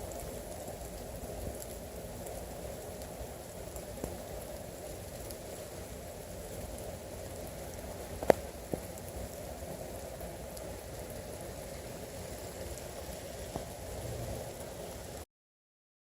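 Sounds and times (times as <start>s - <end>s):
freezing rain pattering: 0.0s - 15.3s.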